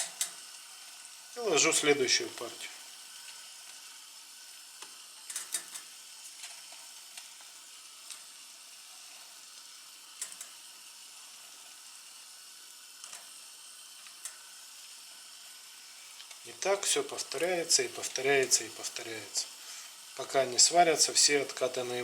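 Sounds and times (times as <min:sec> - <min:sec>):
water boiling in a pot: 0:00.0 - 0:22.0.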